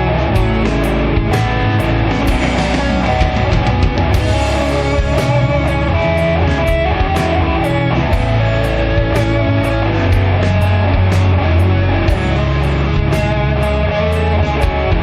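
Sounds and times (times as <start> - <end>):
bass guitar: 0.0 - 15.0
distorted electric guitars: 0.0 - 15.0
drums: 0.0 - 15.0.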